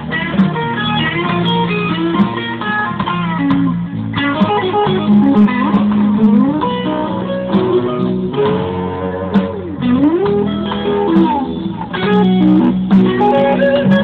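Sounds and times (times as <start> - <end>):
bass line: 0.0 - 14.0
electric guitar melodic lines: 0.0 - 14.0.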